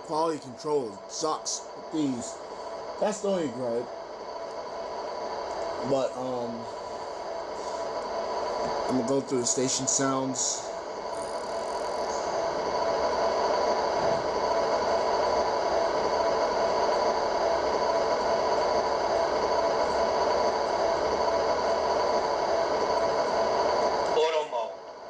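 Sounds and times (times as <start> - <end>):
model train electric hum: 0.0 - 25.0
model train rolling noise: 0.0 - 25.0.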